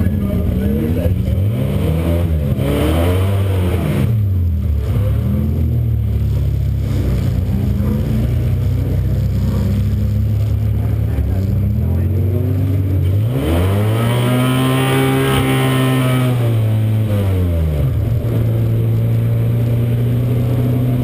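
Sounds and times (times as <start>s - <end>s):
race car engine running: 0.0s - 21.0s.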